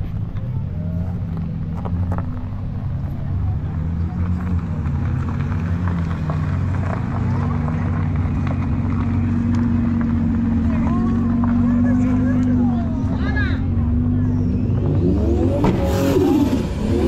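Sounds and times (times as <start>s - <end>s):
car engine running: 0.0s - 17.0s
crowd chatter: 0.0s - 17.0s.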